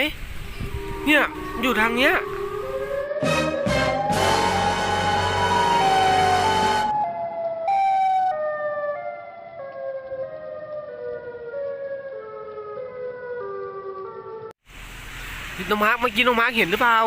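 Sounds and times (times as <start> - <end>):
siren-like monster wail: 0.5 - 14.4.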